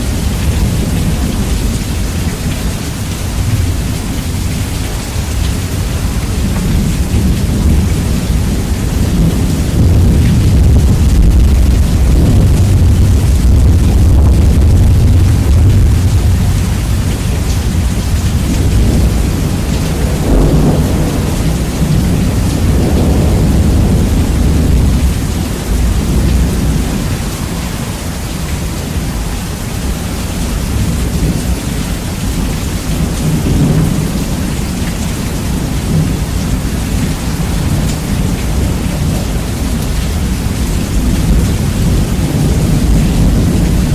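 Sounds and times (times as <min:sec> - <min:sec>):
rain falling: 0:00.0 - 0:43.9
rolling thunder: 0:00.0 - 0:43.9.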